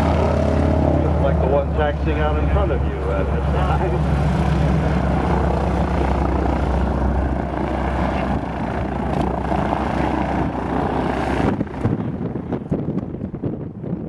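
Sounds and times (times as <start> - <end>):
propeller airplane engine drone: 0.0 - 14.0
wind on microphone: 0.0 - 14.0.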